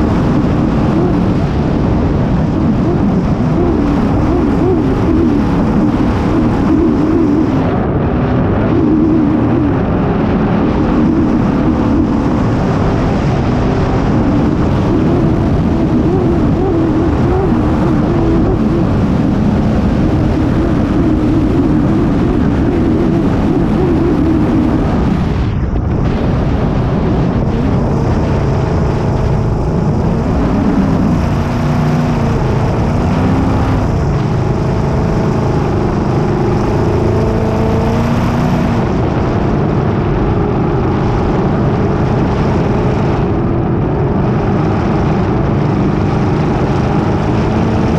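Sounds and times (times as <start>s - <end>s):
boat engine running hard: 0.0s - 47.9s.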